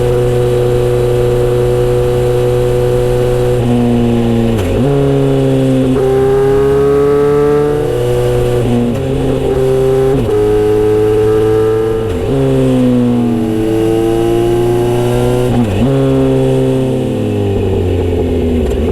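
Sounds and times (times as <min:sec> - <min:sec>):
loud motorcycle engine revving: 0:00.0 - 0:18.9.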